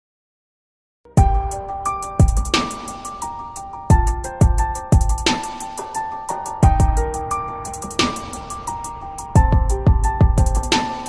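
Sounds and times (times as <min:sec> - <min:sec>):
electronic music with a beat: 0:01.2 - 0:11.0.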